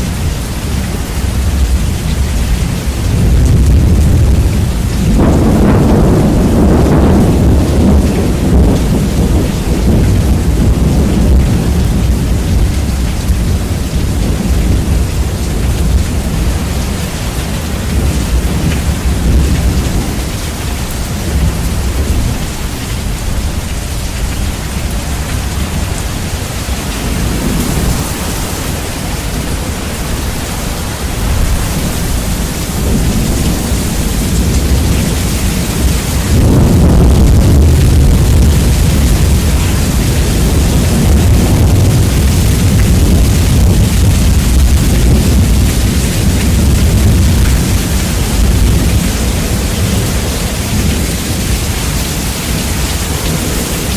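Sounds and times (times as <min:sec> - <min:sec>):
deep thunder rumble: 0:00.0 - 0:53.9
rain hiss: 0:00.0 - 0:53.9.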